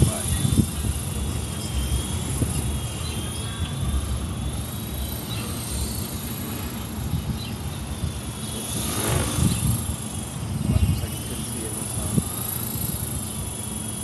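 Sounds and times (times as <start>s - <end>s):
high motor whine: 0.0s - 14.0s.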